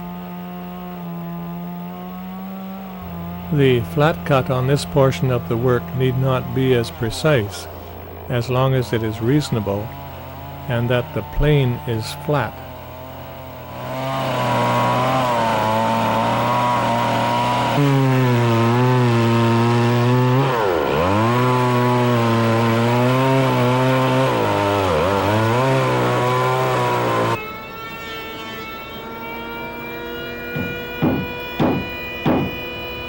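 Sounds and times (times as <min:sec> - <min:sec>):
chainsaw cutting log: 0:00.0 - 0:33.0.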